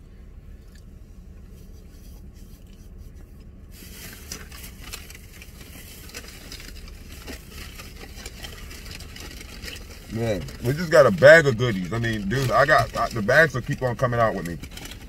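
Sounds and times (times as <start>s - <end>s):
low car cabin hum: 0.0s - 15.0s
hands rustling food packaging: 0.7s - 15.0s.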